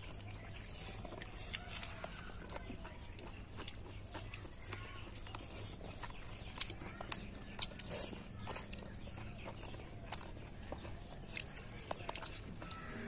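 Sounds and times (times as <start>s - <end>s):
open-mouth chewing: 0.0s - 13.0s.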